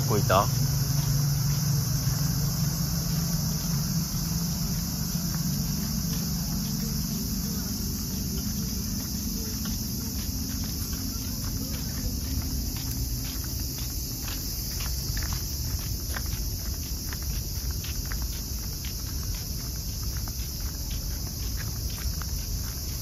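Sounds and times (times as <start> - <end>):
cicadas chorus: 0.0 - 23.0
footsteps on paving: 0.0 - 23.0.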